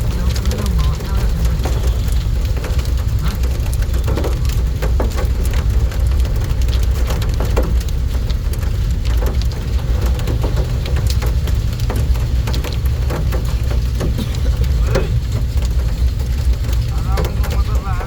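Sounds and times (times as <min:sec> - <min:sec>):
heavy rain splashing: 0:00.0 - 0:18.0
low rumble: 0:00.0 - 0:18.0.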